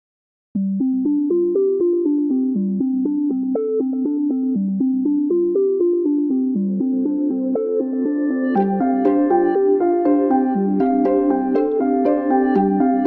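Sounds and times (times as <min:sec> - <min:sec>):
repeating synthesizer notes: 0:00.8 - 0:13.0.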